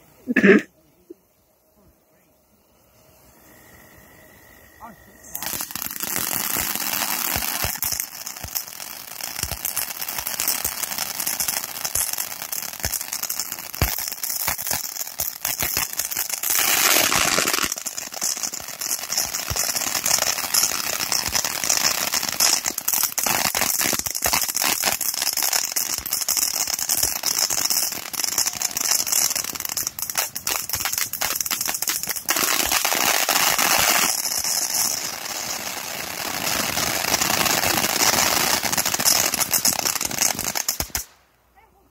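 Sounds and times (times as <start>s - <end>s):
hiss of spraying sparks: 5.3s - 41.1s
firework crackling pops: 5.3s - 41.4s.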